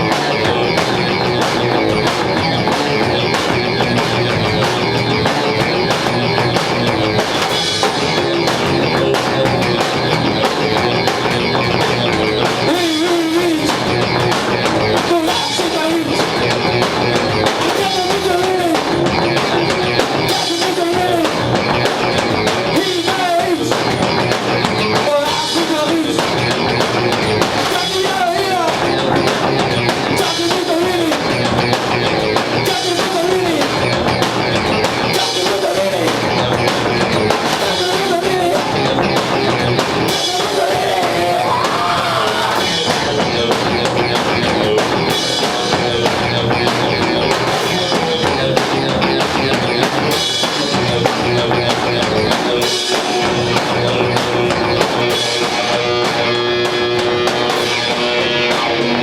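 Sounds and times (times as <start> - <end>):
punk rock band playing: 0.0 - 59.0.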